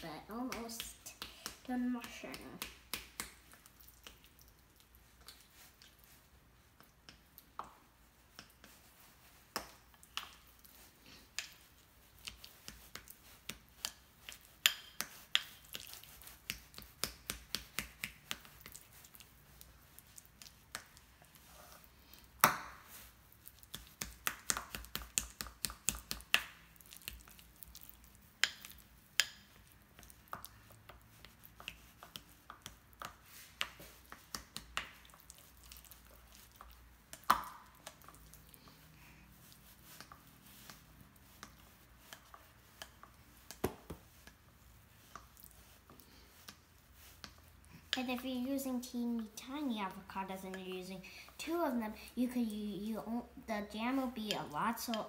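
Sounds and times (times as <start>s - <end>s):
plastic fork mashing avocado in bowl: 0.0s - 55.0s.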